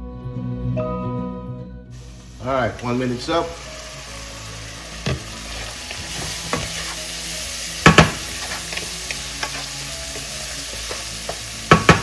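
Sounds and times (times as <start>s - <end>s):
meat sizzling in a pan: 2.0s - 12.0s.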